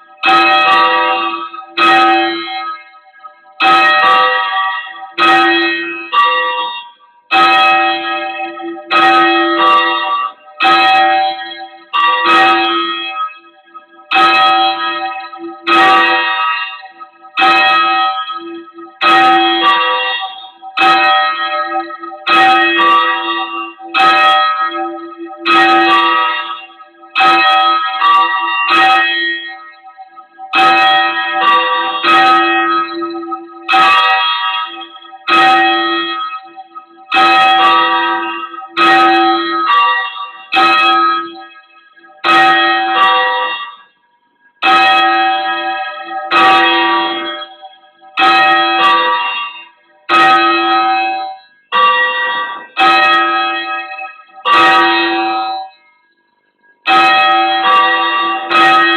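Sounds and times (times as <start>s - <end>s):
church bells ringing: 0.0s - 58.9s.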